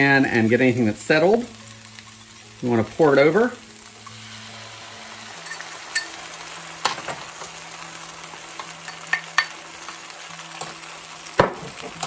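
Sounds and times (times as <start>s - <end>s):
stir-fry sizzling in a skillet: 0.0s - 12.0s.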